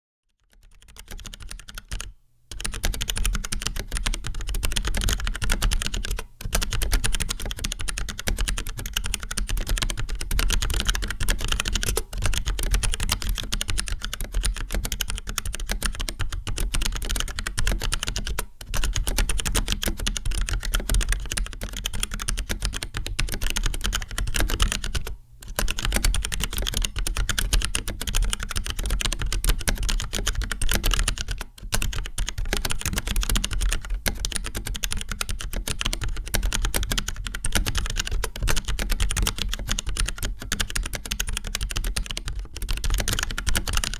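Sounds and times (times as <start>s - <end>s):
typing on mechanical keyboard: 0.4s - 43.9s.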